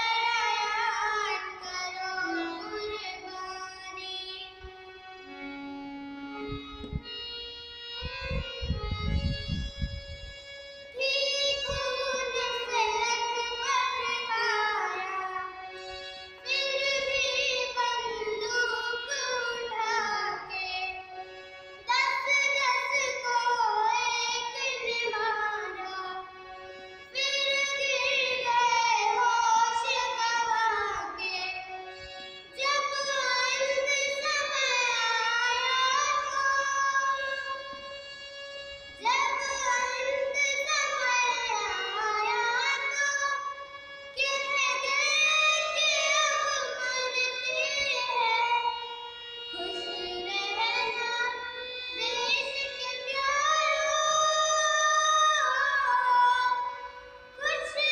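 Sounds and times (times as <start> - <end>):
girl singing: 0.0 - 4.7, 10.9 - 38.1, 39.0 - 57.9
harmonium accompaniment: 0.0 - 57.9.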